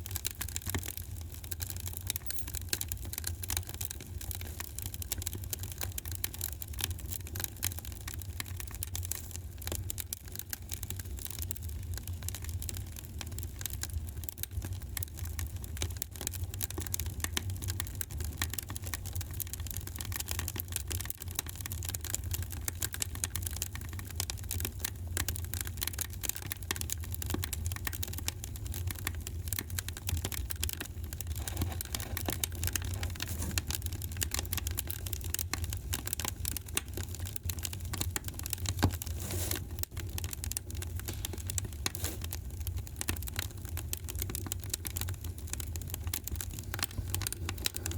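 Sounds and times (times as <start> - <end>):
loud fire crack: 0.0 - 47.9
wood fire crackling: 0.0 - 47.9.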